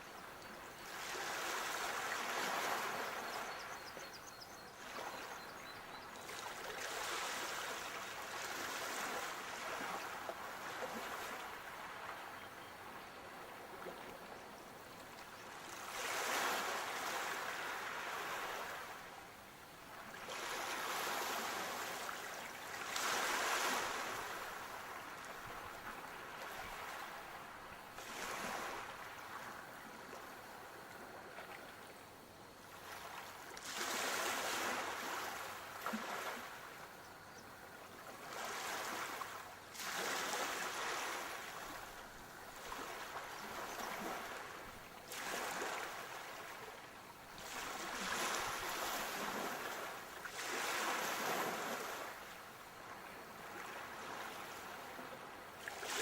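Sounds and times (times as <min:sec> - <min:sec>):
sea waves breaking on shore: 0:00.5 - 0:04.0, 0:06.2 - 0:14.3, 0:15.1 - 0:31.9, 0:32.6 - 0:56.0.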